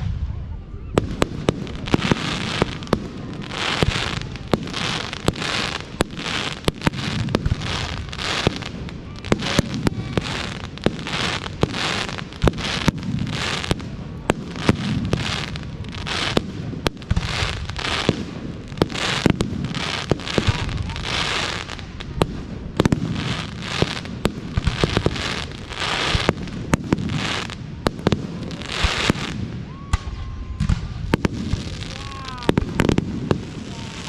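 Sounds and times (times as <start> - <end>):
fireworks bangs: 0.0 - 34.0
fireworks crackling hiss: 0.0 - 34.0.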